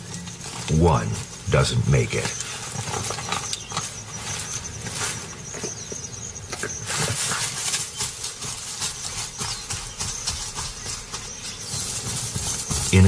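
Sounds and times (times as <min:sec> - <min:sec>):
rustling in grass: 0:00.0 - 0:13.0.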